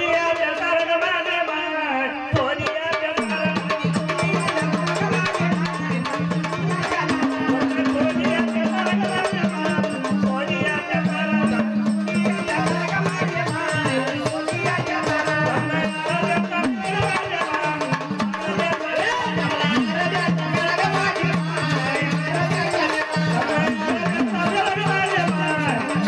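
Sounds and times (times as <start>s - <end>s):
person singing over pa: 0.0s - 26.0s
hand drum: 2.6s - 26.0s
jingling rattle percussion: 3.2s - 26.0s.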